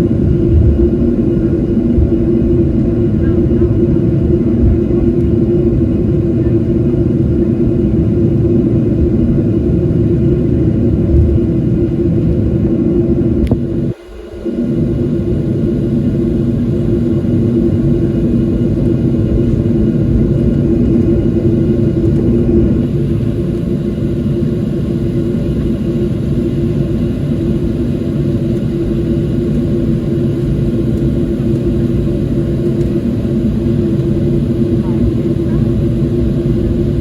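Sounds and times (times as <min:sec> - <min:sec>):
jet engine drone in cabin: 0:00.0 - 0:37.0.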